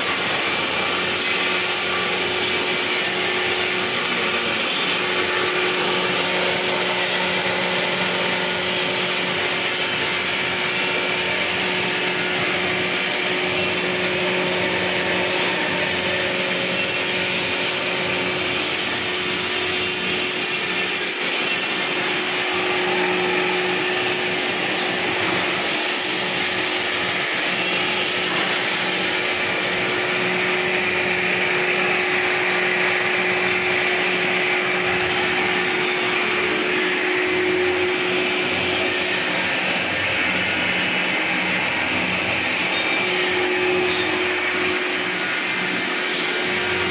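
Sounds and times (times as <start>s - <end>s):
feed extruder motor humming and grinding: 0.0s - 46.9s.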